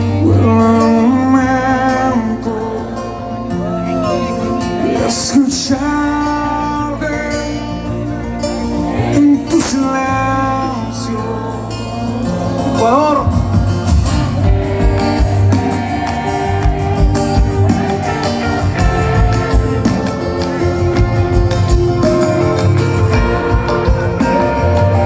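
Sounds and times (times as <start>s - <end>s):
live pop band playing: 0.0s - 25.0s.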